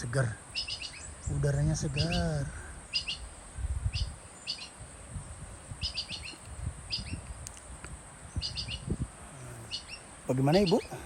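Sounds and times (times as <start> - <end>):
small bird chirping: 0.4 - 11.0.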